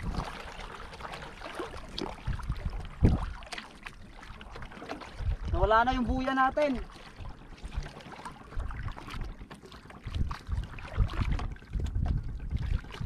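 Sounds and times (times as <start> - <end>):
paddle strokes splashing water: 0.0 - 13.0
wind rumble on microphone: 0.0 - 13.0.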